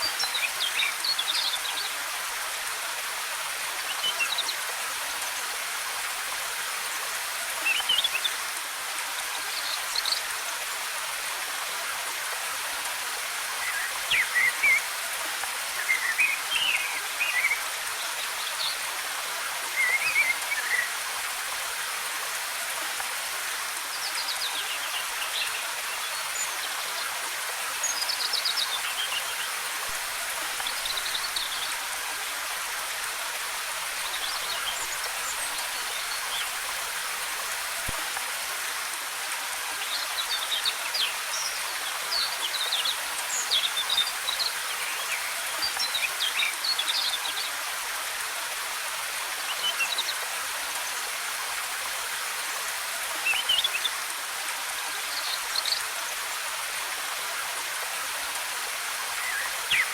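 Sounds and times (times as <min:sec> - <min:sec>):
waterfall rushing: 0:09.6 - 0:59.9.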